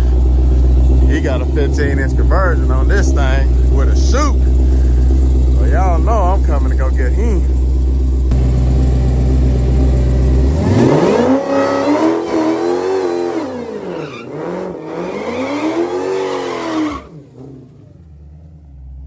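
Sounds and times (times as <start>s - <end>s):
drag car engine revving: 0.0s - 19.0s.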